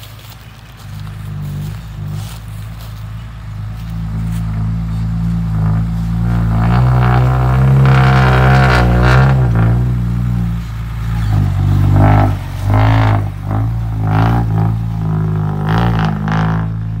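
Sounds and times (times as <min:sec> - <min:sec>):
low drone and bass: 0:00.0 - 0:17.0.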